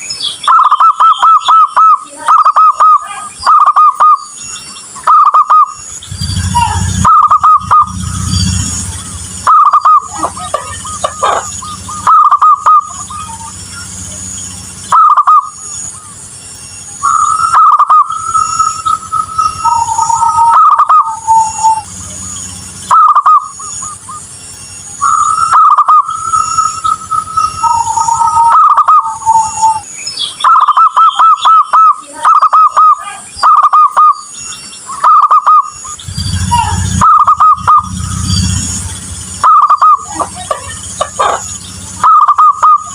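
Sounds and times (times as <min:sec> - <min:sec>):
whistle-like tone: 0:00.0 - 0:42.9
dove cooing: 0:00.5 - 0:04.2, 0:05.0 - 0:16.1, 0:17.0 - 0:22.2, 0:22.9 - 0:24.3, 0:25.0 - 0:34.1, 0:35.0 - 0:42.9.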